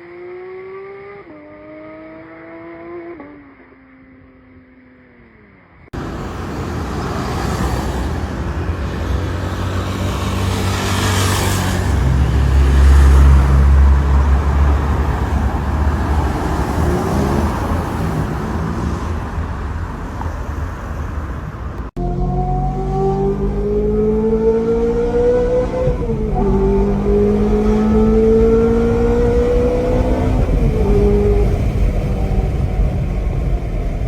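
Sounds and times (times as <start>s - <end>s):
car engine rumbling: 5.9s - 34.0s.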